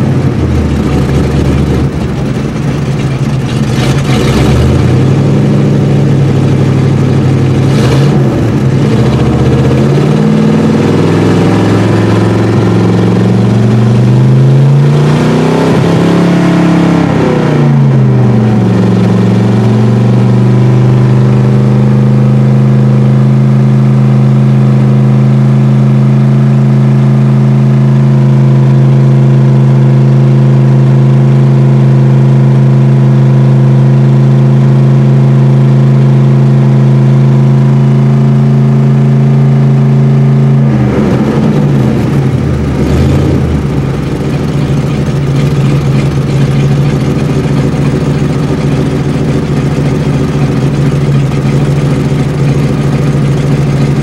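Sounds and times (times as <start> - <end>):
car engine from inside: 0.0 - 54.0.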